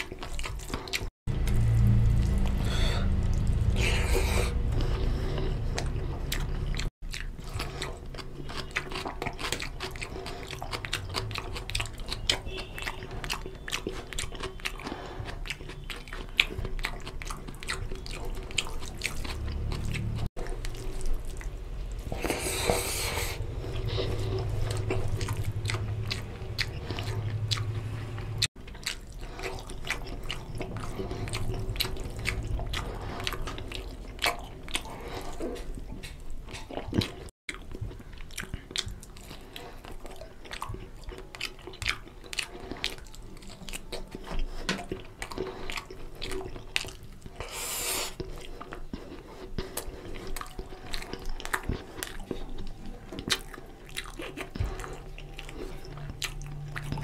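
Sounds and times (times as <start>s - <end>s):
chewing and biting food: 0.0s - 57.0s
wet mouth clicks and smacking: 5.7s - 57.0s.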